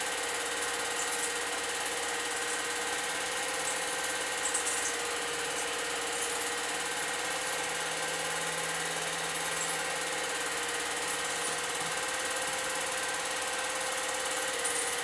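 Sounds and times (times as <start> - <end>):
constant hum: 0.0 - 15.0
film projector whirring: 0.0 - 15.0.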